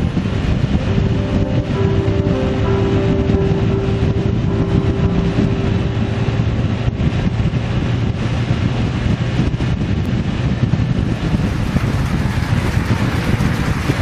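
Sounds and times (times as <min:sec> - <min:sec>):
wind buffeting microphone: 0:00.0 - 0:14.0
vehicle engine droning: 0:01.5 - 0:14.0.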